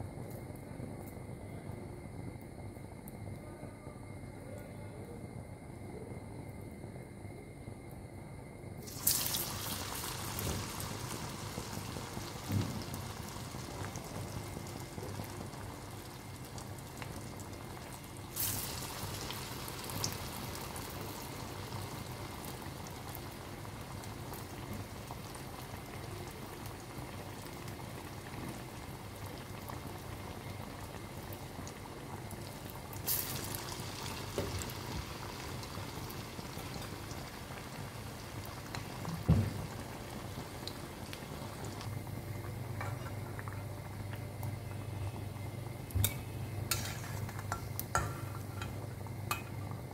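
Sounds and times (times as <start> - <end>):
deep-frying sizzle in oil: 8.8 - 49.9.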